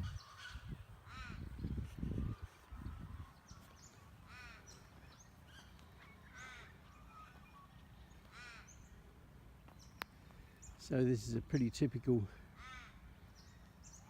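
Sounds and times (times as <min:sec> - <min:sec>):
bird calling: 0:00.0 - 0:14.0.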